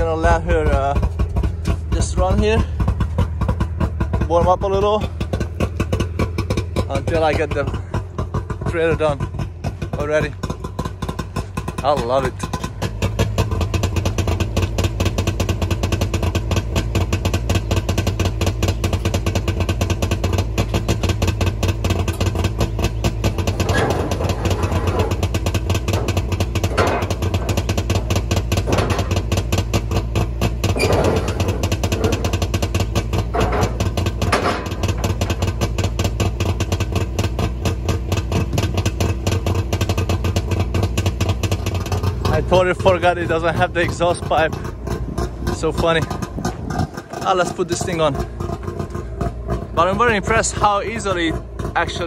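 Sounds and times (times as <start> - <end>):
two-stroke engine idling: 0.0 - 52.0.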